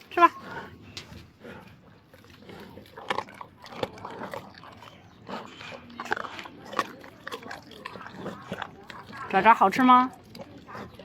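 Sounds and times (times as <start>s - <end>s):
tiger chewing with wet crunches: 0.0s - 11.0s.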